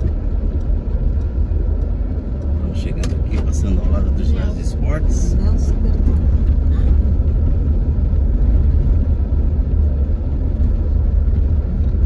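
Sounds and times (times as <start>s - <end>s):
car driving on street: 0.0s - 12.0s.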